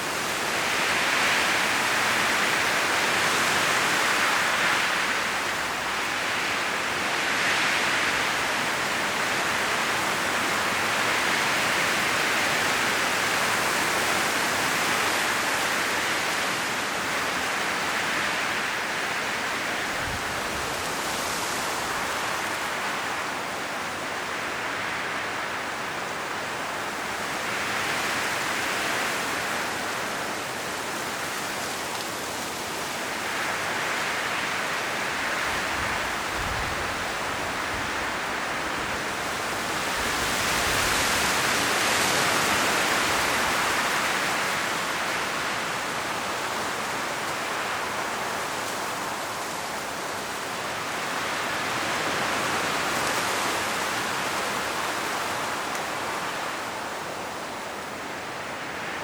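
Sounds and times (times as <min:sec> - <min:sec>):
wind rustling leaves: 0:00.0 - 0:59.0.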